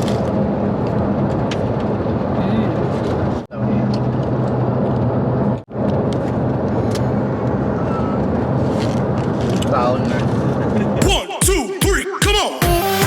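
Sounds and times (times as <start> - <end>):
car road and engine noise: 0.0 - 11.2
low hum: 0.0 - 11.4.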